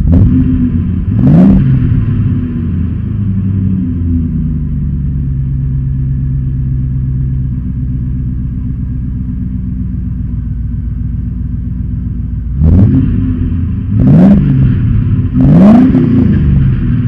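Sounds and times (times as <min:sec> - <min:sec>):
engine idling with deep rumble: 0:00.0 - 0:17.0.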